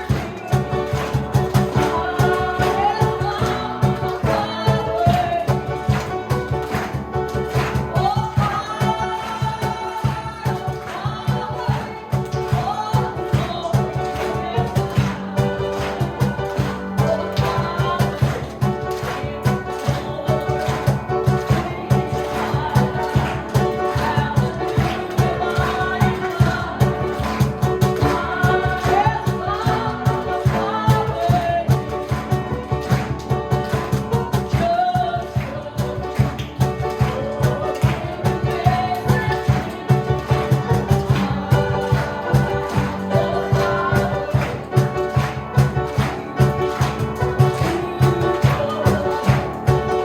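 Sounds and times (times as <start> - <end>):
band with quick beat and bass: 0.0 - 50.0
voices singing gospel: 0.0 - 50.0.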